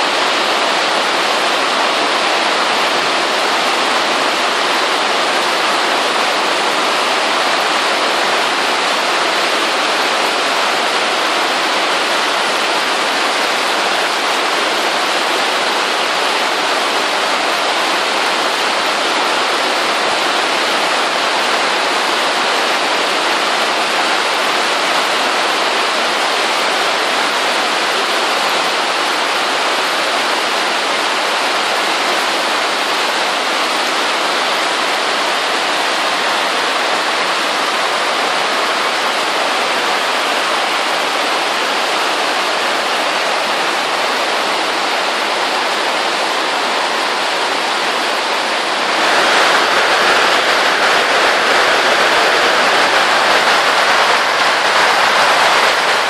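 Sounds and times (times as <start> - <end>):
rain on plastic sheeting: 0.0 - 56.0.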